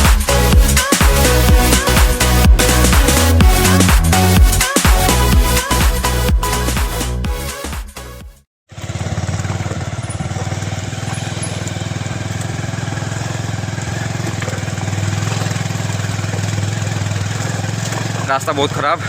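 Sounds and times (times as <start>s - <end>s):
motorcycle engine idling low: 0.0s - 7.3s, 8.7s - 19.0s.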